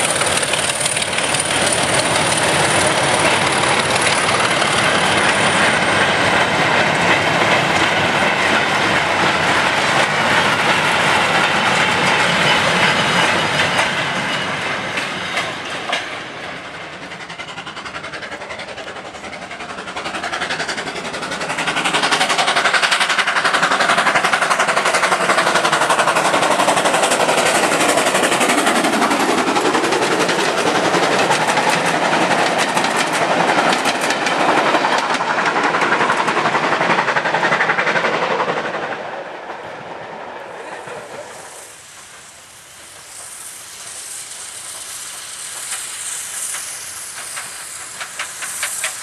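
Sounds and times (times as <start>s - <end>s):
receding train rumble: 0.0s - 49.0s
steam locomotive passing at speed: 0.0s - 49.0s.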